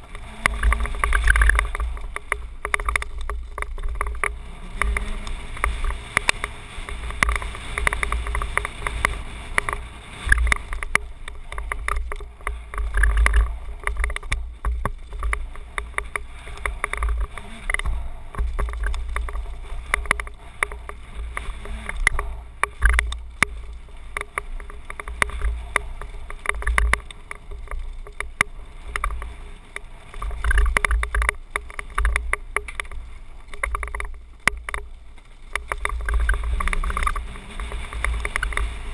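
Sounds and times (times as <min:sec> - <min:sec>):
bike rattling on loose stones: 0:00.0 - 0:38.9.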